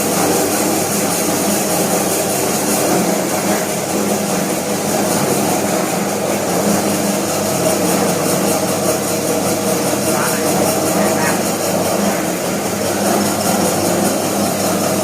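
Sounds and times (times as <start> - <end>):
slicing machine humming: 0.0 - 15.0.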